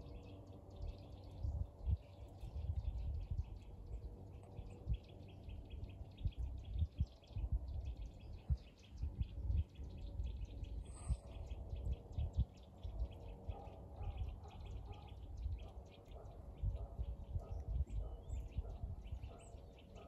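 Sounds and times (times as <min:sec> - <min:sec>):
songbirds chirping: 0:00.0 - 0:20.0
wind buffeting microphone: 0:00.0 - 0:20.0.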